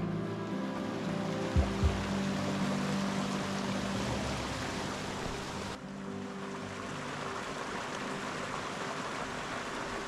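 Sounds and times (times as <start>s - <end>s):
stream water rushing over rocks: 0.0s - 10.0s.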